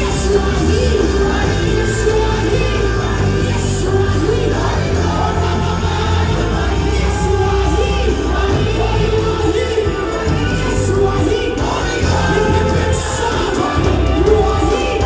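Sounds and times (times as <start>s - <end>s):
steady bass: 0.0s - 15.0s
worship singing: 0.0s - 15.0s.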